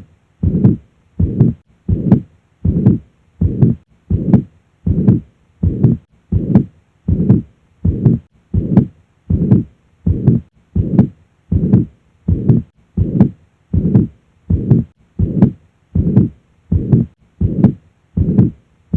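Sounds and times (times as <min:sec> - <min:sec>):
heartbeat with murmur: 0:00.0 - 0:18.6.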